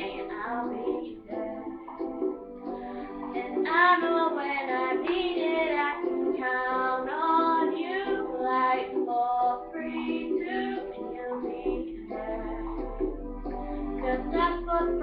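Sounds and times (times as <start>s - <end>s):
music accompaniment: 0.0s - 15.0s
person singing pop song: 0.0s - 15.0s.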